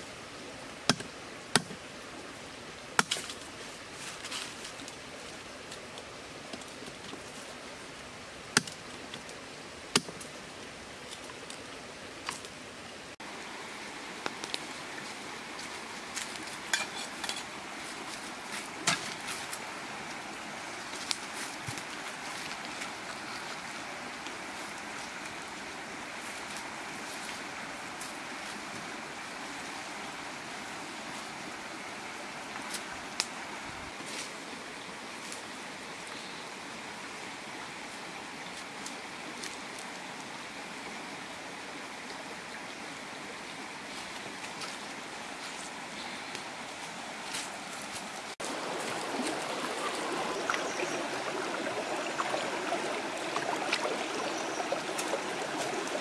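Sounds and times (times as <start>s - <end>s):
steady outdoor hiss: 0.0s - 56.0s.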